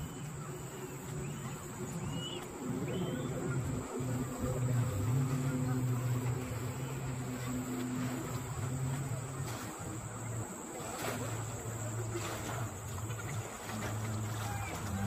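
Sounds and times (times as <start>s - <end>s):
insects high-pitched drone: 0.0s - 15.0s
low steady hum: 0.0s - 15.0s.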